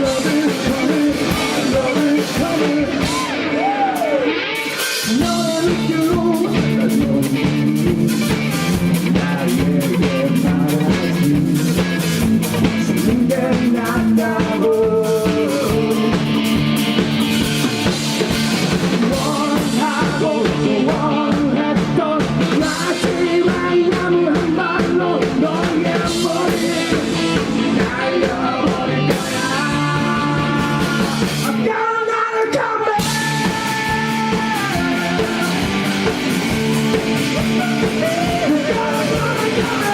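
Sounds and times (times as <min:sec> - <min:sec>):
indie rock band playing live: 0:00.0 - 0:39.9.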